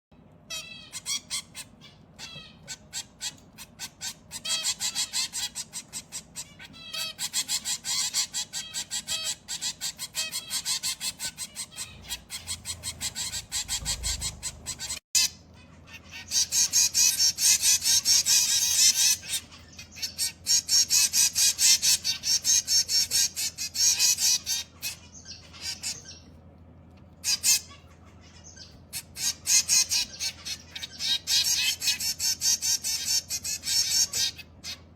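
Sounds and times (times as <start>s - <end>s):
finches calling: 0.5s - 26.3s, 27.2s - 34.9s.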